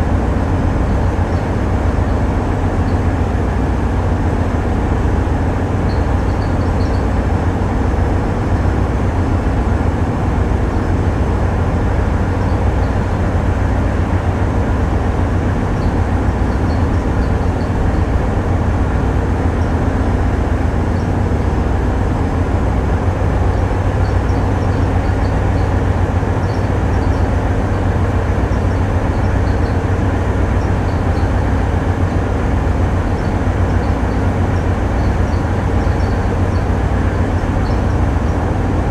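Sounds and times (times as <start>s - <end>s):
boat diesel engines droning: 0.0s - 38.9s.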